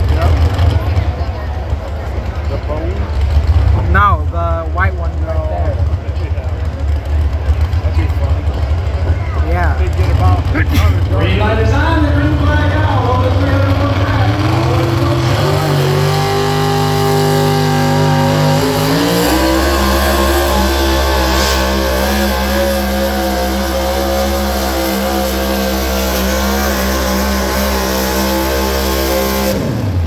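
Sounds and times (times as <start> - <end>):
truck engine at high revs: 0.0 - 30.0.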